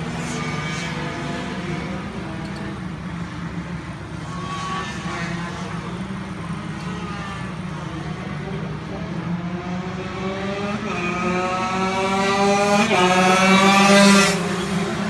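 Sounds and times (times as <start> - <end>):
racing engines running: 0.0 - 15.0.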